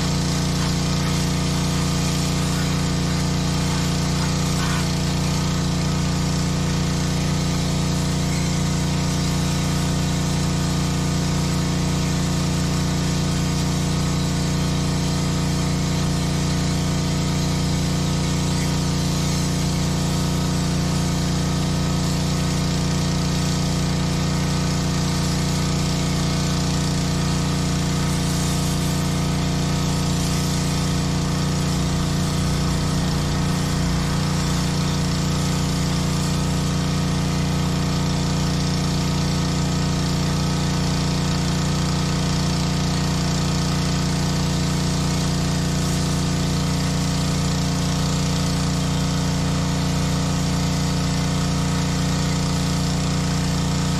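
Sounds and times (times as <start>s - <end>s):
high-pressure spray hiss: 0.0s - 53.9s
small petrol engine running: 0.0s - 53.9s.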